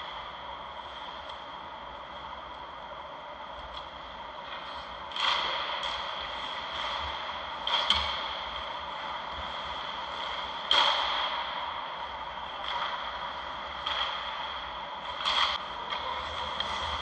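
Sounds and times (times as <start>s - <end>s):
steady high whine: 0.0s - 17.0s.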